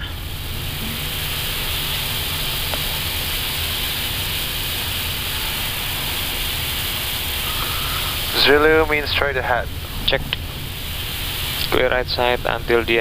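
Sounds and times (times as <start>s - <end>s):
low hum of idling engines: 0.0s - 13.0s
ventilation hiss: 0.0s - 13.0s.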